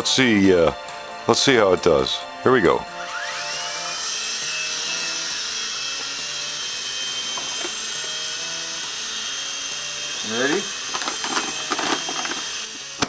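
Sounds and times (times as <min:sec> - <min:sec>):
toy helicopter rotor motors whining: 0:00.0 - 0:13.0.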